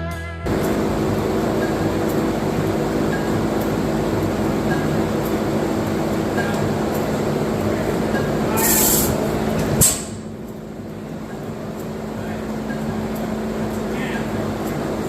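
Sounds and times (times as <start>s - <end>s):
stationary gasoline engine running: 0.5s - 15.0s.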